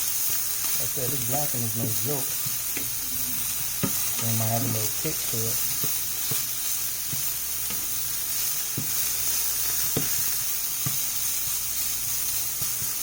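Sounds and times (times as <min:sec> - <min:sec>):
shrimp sizzling in a frying pan: 0:00.0 - 0:13.0.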